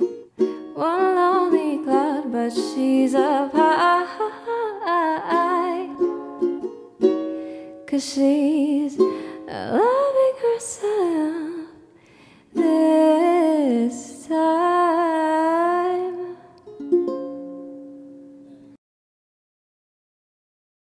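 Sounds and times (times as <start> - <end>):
girl singing wordless melody: 0.0 - 18.5
ukulele: 0.0 - 18.8.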